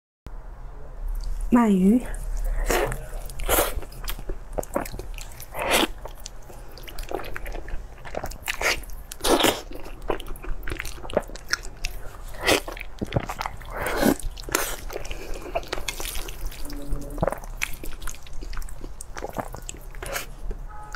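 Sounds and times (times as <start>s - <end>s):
person biting and chewing: 2.2s - 20.6s.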